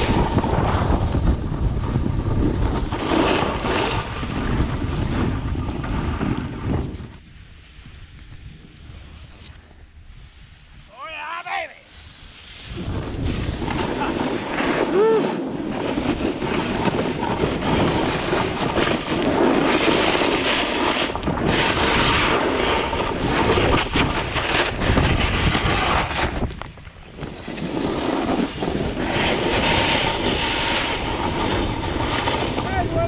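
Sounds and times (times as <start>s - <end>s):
wind on microphone: 0.0s - 10.9s, 11.9s - 33.0s
skis hissing over snow: 2.5s - 33.0s.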